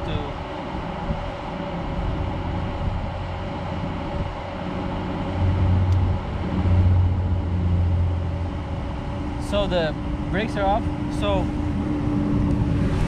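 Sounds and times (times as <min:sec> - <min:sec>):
truck diesel engine idling: 0:00.0 - 0:12.3.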